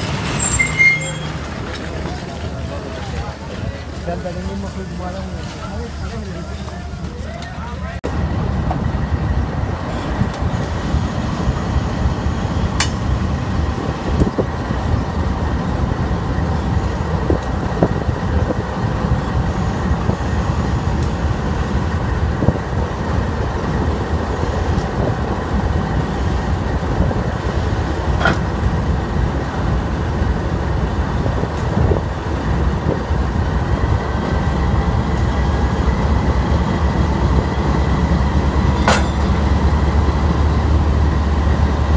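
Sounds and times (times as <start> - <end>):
train rumbling on tracks: 0.0 - 41.9.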